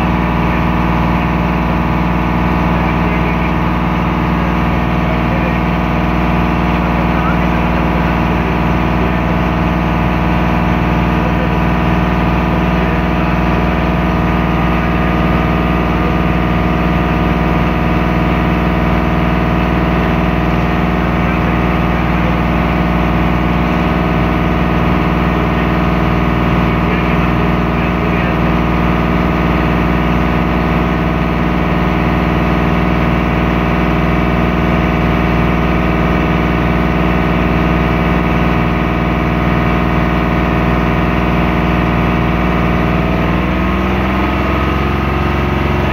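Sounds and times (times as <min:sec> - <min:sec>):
motorboat engine hum: 0:00.0 - 0:45.9.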